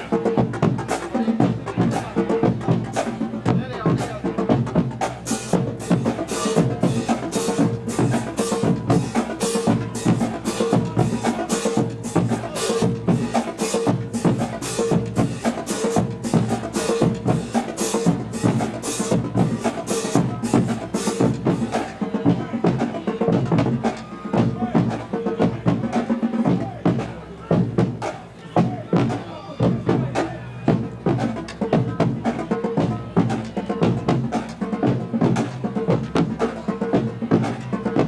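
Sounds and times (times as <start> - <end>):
bass drums: 0.0 - 38.0
snare drums: 0.0 - 38.0.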